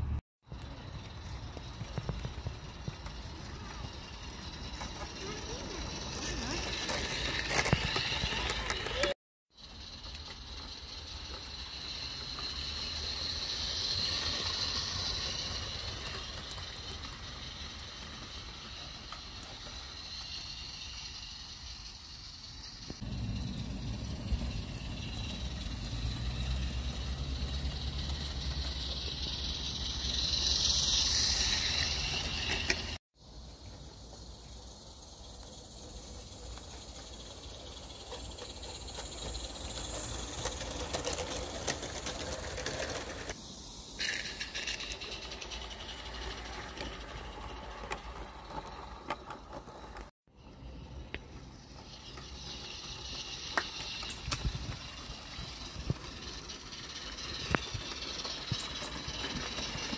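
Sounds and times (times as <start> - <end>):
small steam locomotive steaming: 0.0 - 59.9
model trains rattling on track: 0.5 - 59.9.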